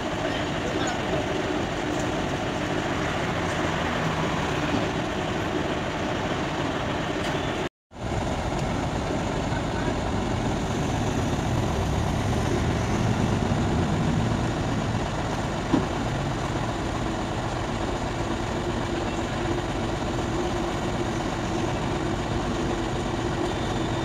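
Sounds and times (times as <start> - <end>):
diesel engine low rumble: 0.0 - 24.0.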